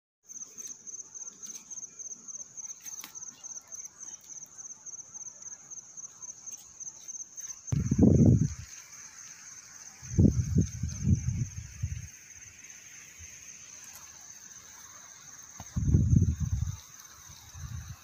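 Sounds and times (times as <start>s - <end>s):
cricket chirping: 0.3s - 18.0s.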